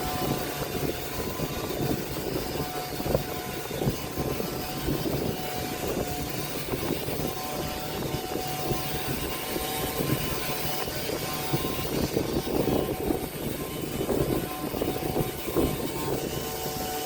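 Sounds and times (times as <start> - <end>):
power sander motor drone: 0.0 - 17.0.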